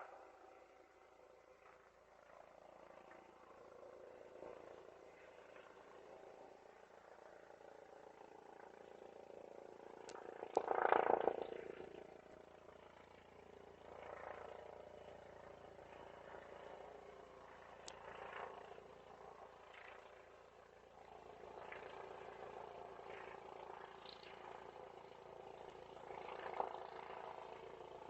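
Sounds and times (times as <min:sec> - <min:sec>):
helicopter drone: 0:00.0 - 0:28.0.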